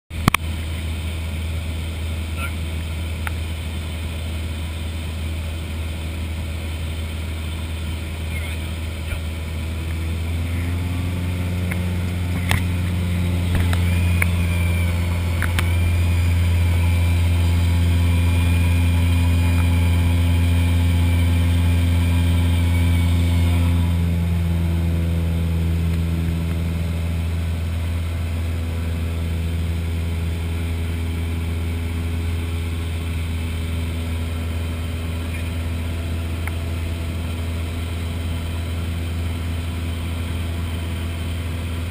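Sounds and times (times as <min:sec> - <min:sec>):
propeller plane engine droning: 0:00.1 - 0:41.9.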